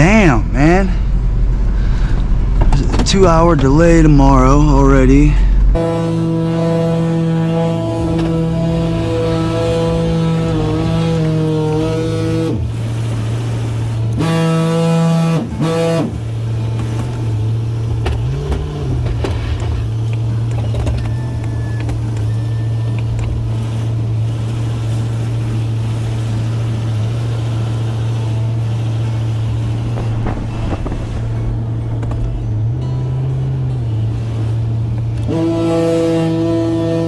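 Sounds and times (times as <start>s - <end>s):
truck engine droning: 0.0s - 37.0s.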